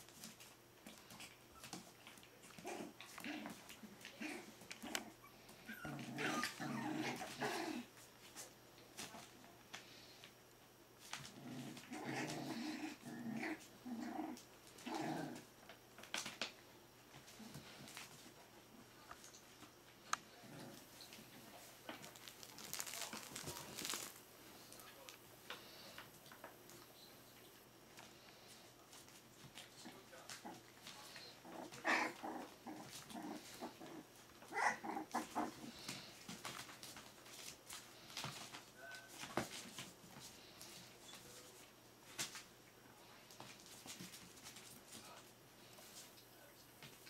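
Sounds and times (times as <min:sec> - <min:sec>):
puppies growling in play: 0:00.0 - 0:08.3, 0:11.0 - 0:24.8, 0:25.5 - 0:41.7.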